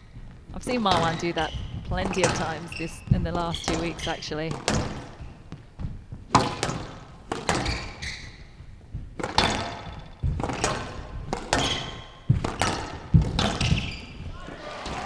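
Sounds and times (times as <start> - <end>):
squash ball hits: 0.0 - 15.0.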